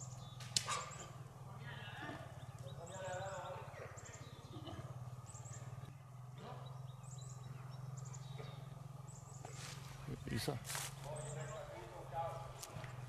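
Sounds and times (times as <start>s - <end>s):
low steady rumble: 0.0s - 13.0s
small bird chirping: 0.0s - 13.0s.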